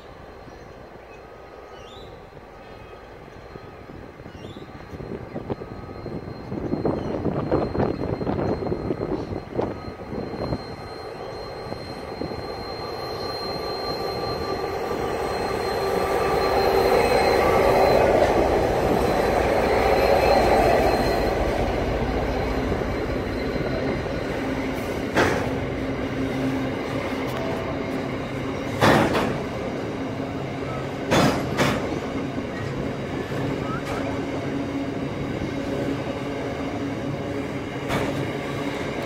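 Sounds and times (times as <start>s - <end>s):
freight locomotive engine: 0.0s - 39.0s
high wheel squeal: 1.6s - 39.0s.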